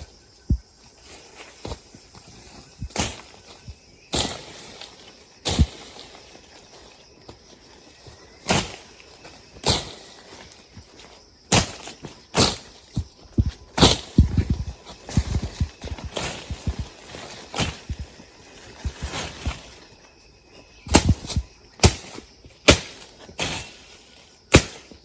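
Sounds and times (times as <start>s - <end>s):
sharp crunching thuds: 0.0s - 19.9s, 20.8s - 25.0s.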